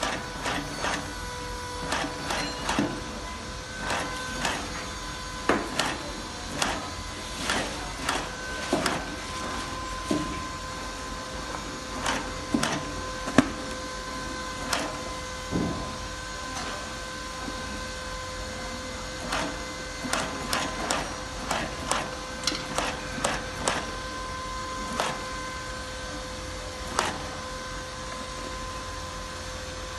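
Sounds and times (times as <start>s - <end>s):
machine mechanical strokes: 0.0s - 16.8s, 19.0s - 28.0s.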